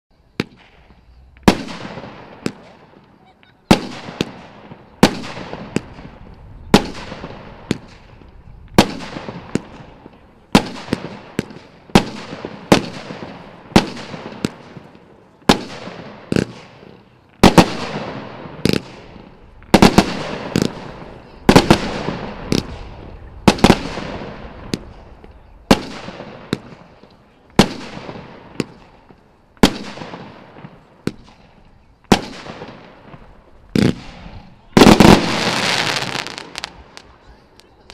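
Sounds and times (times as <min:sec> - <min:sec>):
hissing firework trail: 0:00.2 - 0:37.9
firework shots banging: 0:00.4 - 0:37.9.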